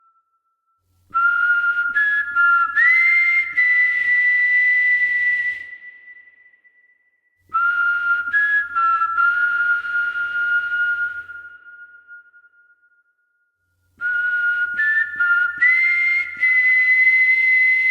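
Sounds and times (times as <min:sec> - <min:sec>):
whistle-like music: 0:00.0 - 0:17.9.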